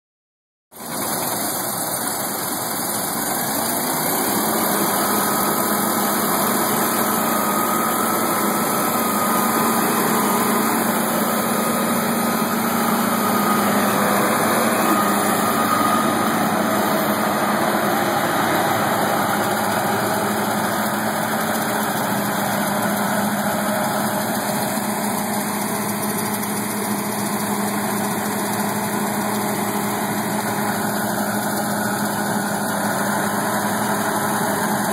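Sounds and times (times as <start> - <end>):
diesel engine droning: 0.8 - 34.9.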